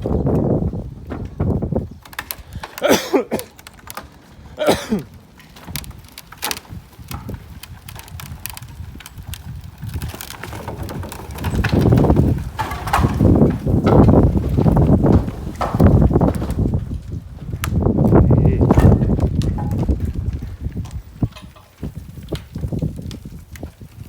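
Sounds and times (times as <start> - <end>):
falling creaks: 0.0 - 23.8
knocks and clatter of debris: 0.0 - 24.0.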